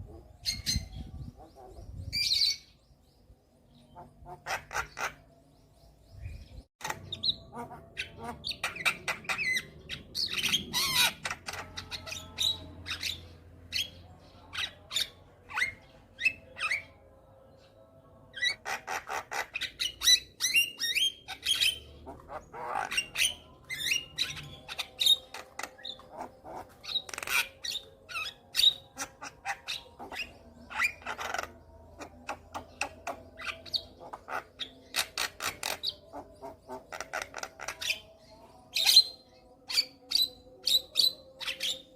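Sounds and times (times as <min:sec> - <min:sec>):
myna bird singing: 0:00.0 - 0:41.9.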